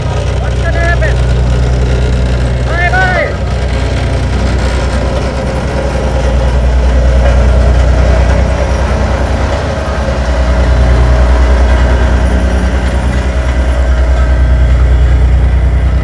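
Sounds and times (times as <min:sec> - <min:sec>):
road roller engine pulsing: 0:00.0 - 0:16.0.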